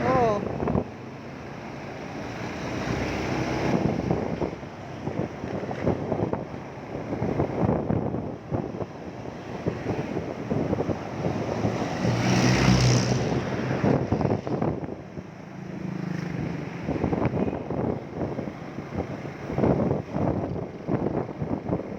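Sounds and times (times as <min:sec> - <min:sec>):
wind buffeting microphone: 0:00.0 - 0:01.0, 0:02.8 - 0:21.9.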